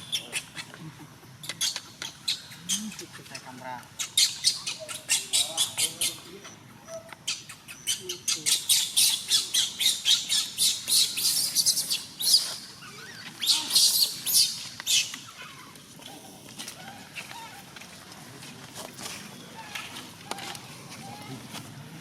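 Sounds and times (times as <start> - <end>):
animal squeaking: 0.0 - 17.8.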